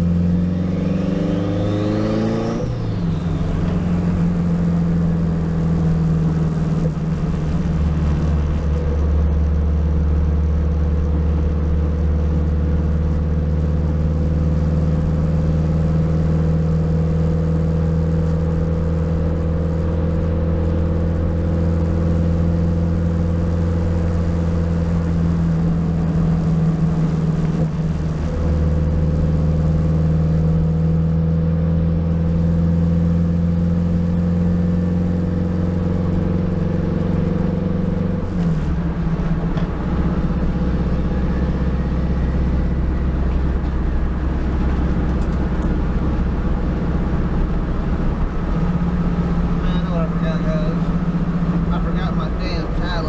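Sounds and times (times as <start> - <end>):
car engine running: 0.0 - 53.0.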